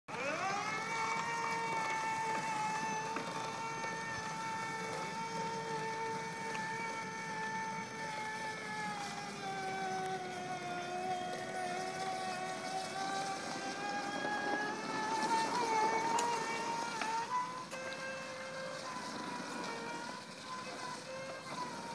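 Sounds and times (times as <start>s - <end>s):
electric motor whining: 0.1s - 21.9s.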